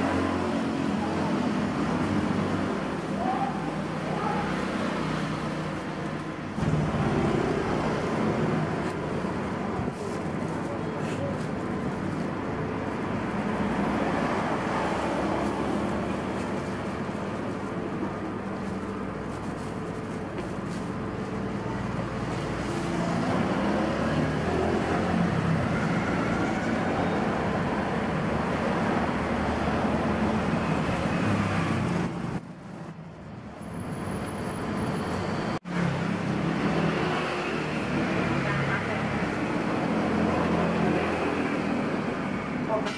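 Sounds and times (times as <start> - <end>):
street traffic: 0.0 - 42.9.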